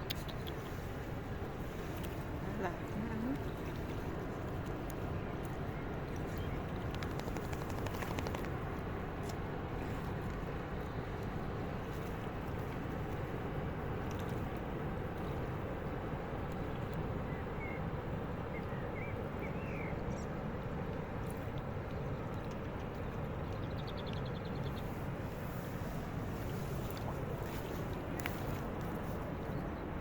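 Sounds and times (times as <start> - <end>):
low rumble and hiss: 0.0 - 30.0.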